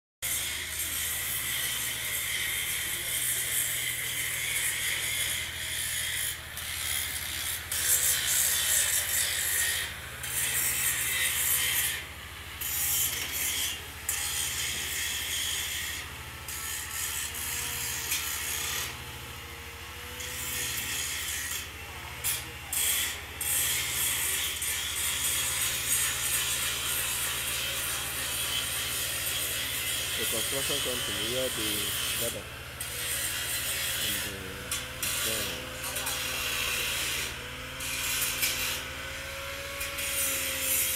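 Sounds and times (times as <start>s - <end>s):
angle grinder grinding steel: 0.2s - 40.9s.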